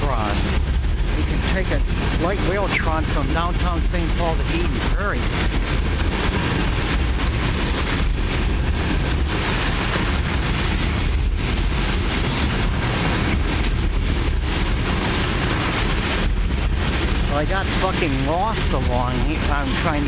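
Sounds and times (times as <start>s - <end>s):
freight train rumbling past: 0.0s - 20.0s
wind buffeting microphone: 0.0s - 20.0s.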